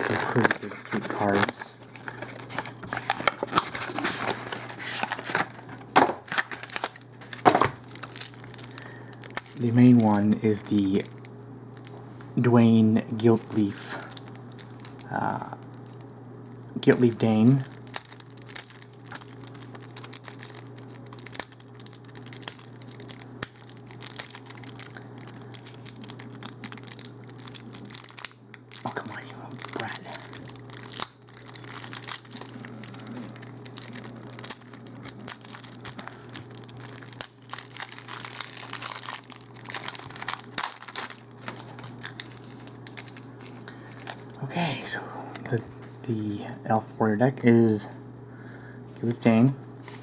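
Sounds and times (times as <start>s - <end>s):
packaging crinkling and rustling: 0.0s - 12.3s, 13.2s - 16.1s, 16.8s - 44.5s.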